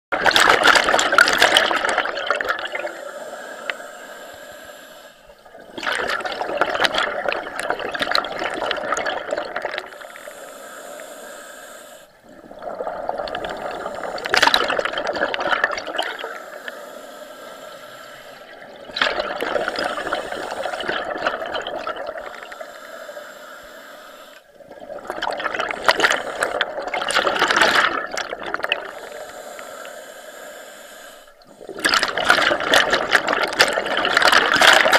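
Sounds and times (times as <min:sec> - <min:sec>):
underwater exhaled bubbles: 0:00.1 - 0:34.9.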